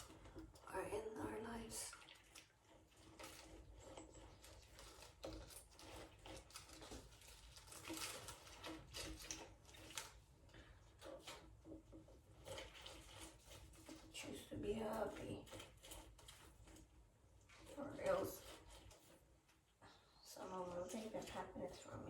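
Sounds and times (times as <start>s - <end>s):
clicks and knocks of food preparation: 0.0s - 0.7s, 2.0s - 14.2s, 14.8s - 19.7s.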